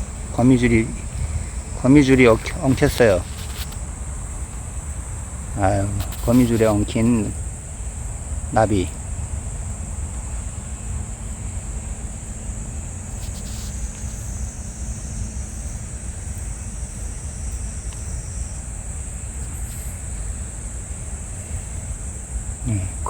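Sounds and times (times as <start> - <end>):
crickets chirping: 0.0 - 23.0
wind rumbling on microphone: 0.0 - 23.0.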